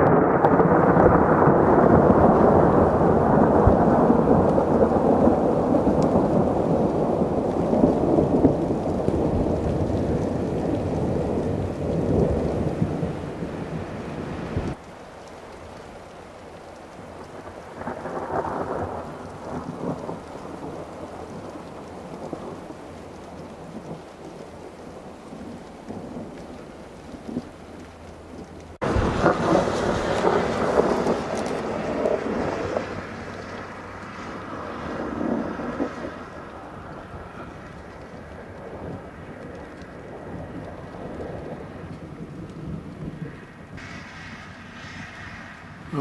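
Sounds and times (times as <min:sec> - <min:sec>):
rolling thunder: 0:00.0 - 0:14.9, 0:15.7 - 0:46.0.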